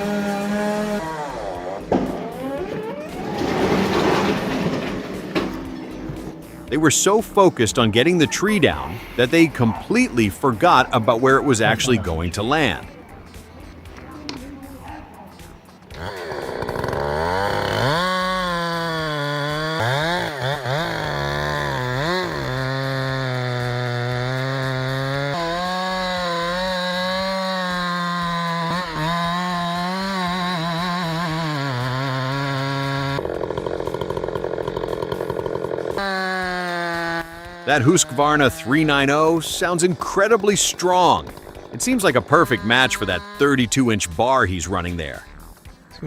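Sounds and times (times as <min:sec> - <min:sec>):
chainsaw revving: 0:00.0 - 0:45.8.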